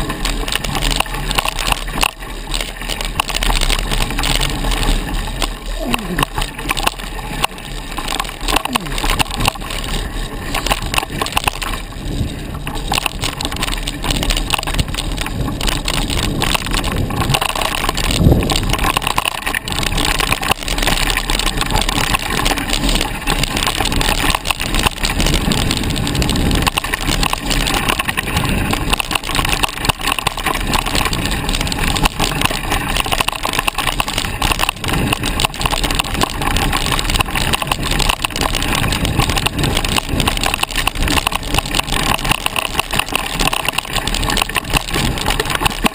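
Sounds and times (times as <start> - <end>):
bike rattling: 0.0 - 45.9
bike tyre noise: 0.0 - 45.9
twigs crunching under tyres: 0.0 - 45.9.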